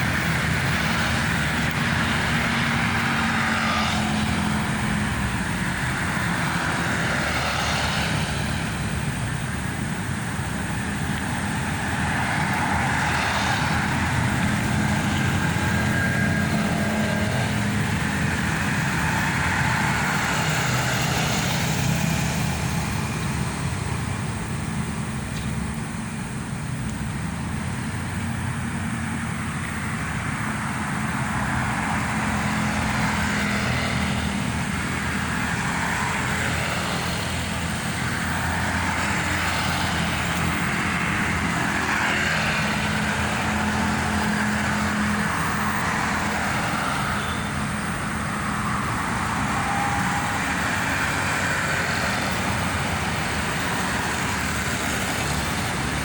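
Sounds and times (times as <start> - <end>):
low engine hum of traffic: 0.0 - 56.0
vehicles passing by hissing: 0.0 - 56.0.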